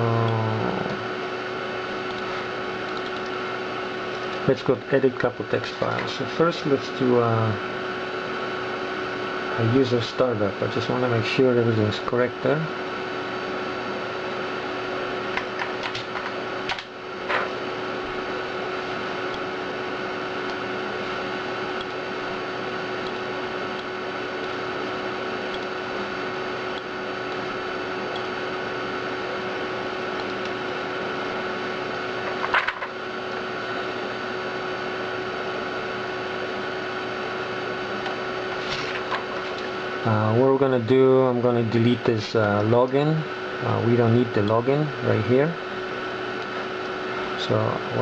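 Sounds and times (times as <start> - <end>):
computer whirring hum: 0.0 - 48.0.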